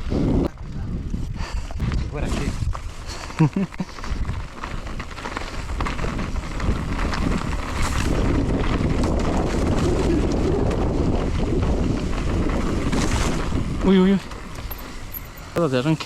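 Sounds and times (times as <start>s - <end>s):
wind rushing over microphone: 0.0s - 15.6s
bike rattles and clicks: 0.0s - 16.0s
tyres rumbling over rough ground: 0.0s - 16.0s.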